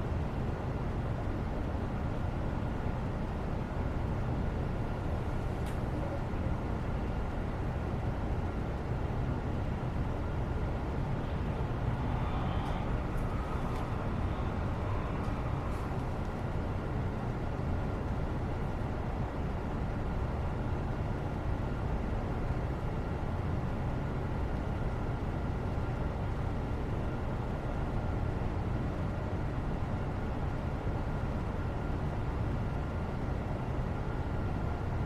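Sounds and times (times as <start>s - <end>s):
faint steady hums: 0.0s - 35.0s
low background rumble: 0.0s - 35.0s.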